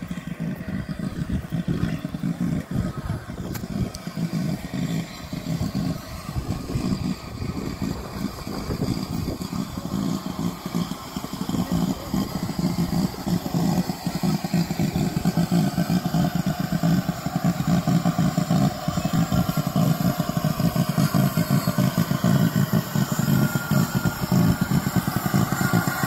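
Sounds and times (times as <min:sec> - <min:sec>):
steam locomotive running slowly: 0:00.0 - 0:26.0.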